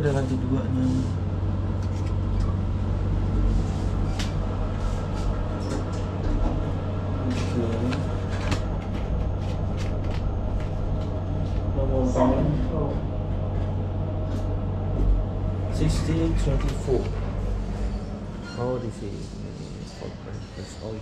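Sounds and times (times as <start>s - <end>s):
elevator hum: 0.0s - 21.0s.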